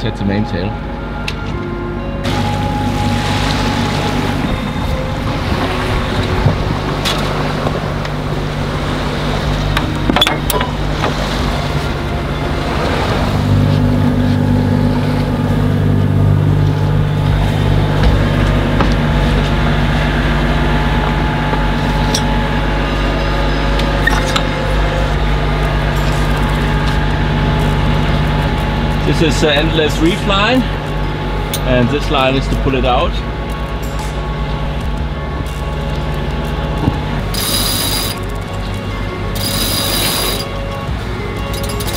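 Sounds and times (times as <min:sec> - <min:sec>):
diesel engine droning: 0:00.0 - 0:41.9.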